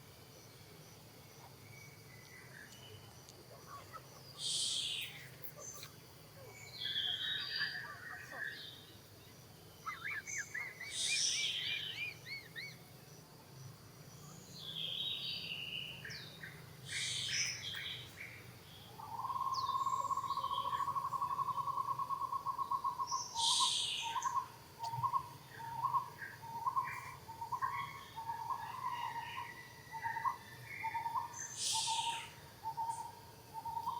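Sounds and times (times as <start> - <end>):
birds chirping and warbling: 1.4 - 33.9.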